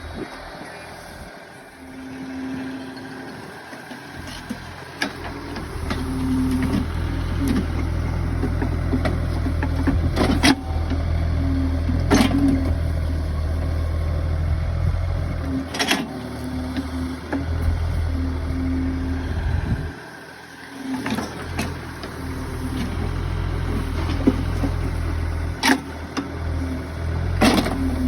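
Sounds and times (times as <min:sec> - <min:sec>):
pile driving machine engine: 0:00.0 - 0:28.0.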